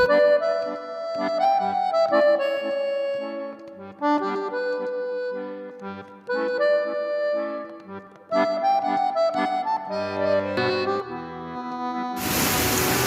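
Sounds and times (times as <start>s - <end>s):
background music melody: 0.0s - 12.3s.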